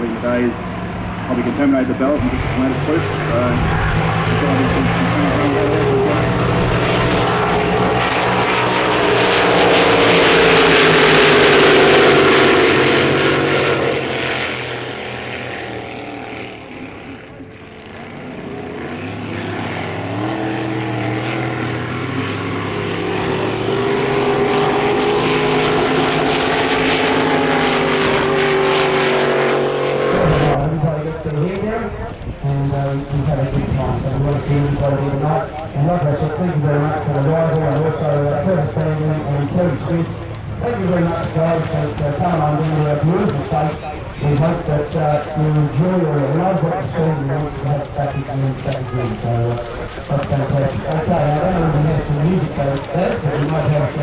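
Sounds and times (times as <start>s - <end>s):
powerboat engines passing: 0.0s - 54.0s.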